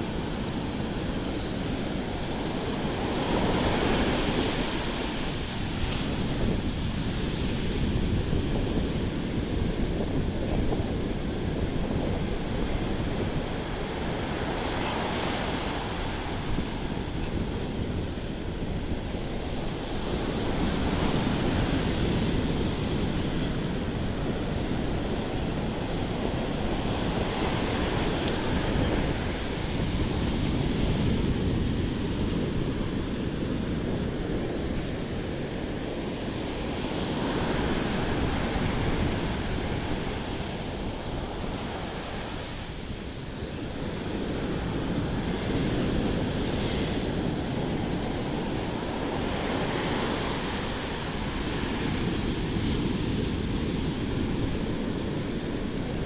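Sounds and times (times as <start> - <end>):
surf washing onto beach: 0.0 - 56.0
wind rumbling on microphone: 0.0 - 56.0.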